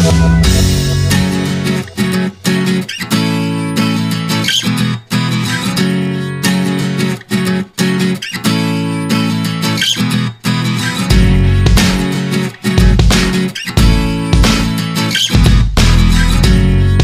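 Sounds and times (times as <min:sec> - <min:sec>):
strummed guitar chords: 0:00.0 - 0:17.0.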